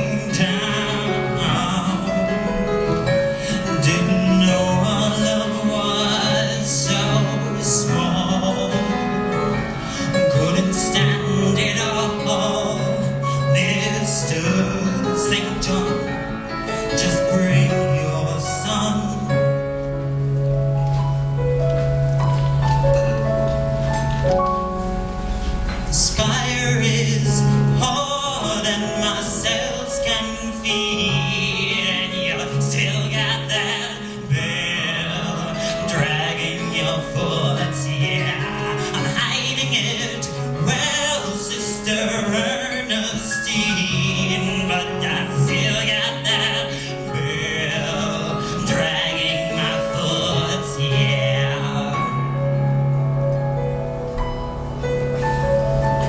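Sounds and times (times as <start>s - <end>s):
instrumental accompaniment: 0.0s - 56.0s.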